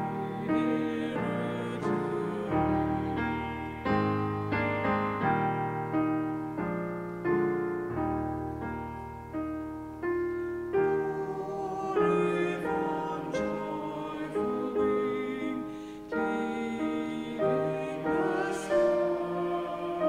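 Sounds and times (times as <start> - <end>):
piano playing slow chords: 0.0 - 20.0.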